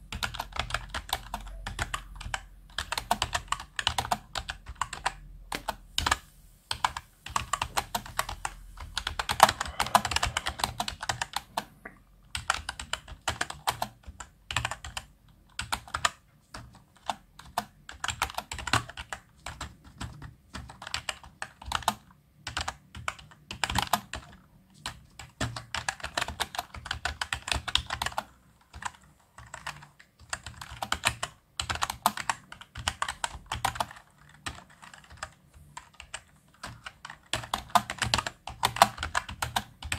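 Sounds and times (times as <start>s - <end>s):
keyboard typing clicks: 0.1s - 39.9s.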